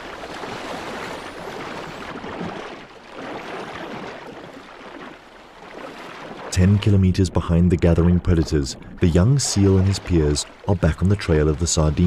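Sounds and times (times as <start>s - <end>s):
rushing bubbling sea water: 0.0s - 12.0s.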